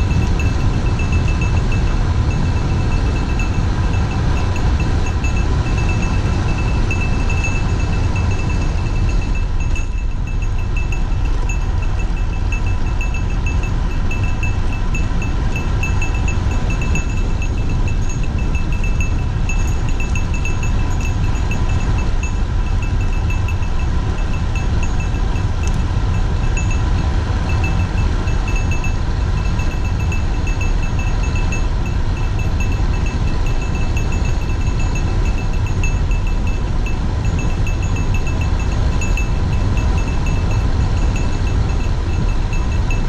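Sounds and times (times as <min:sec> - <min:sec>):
light high ticking: 0:00.0 - 0:43.0
wind rushing over camera: 0:00.0 - 0:43.0.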